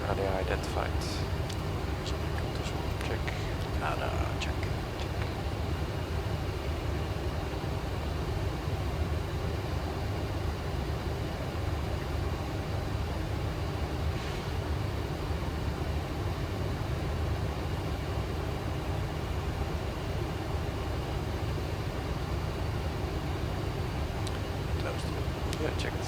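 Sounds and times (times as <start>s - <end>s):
aircraft cockpit low rumble: 0.0s - 26.0s.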